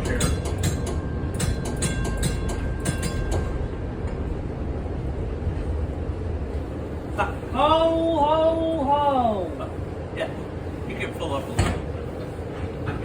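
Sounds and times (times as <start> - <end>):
streetcar rumbling on track: 0.0 - 13.0.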